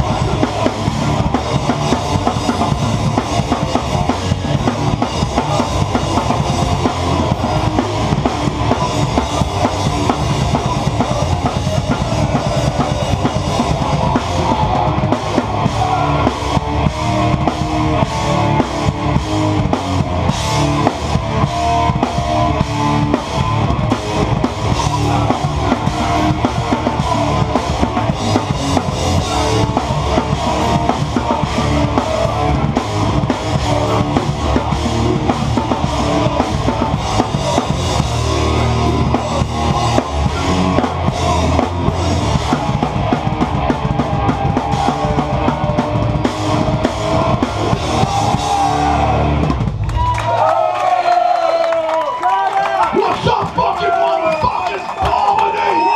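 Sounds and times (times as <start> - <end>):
crowd shouting and cheering: 0.0 - 55.9
hardcore band playing live: 0.0 - 55.9.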